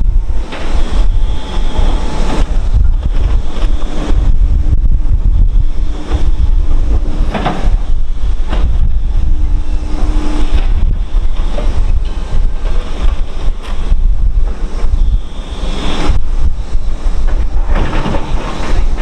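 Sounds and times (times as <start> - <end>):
construction machinery engines humming: 0.0 - 19.0
wind buffeting microphone: 0.0 - 19.0.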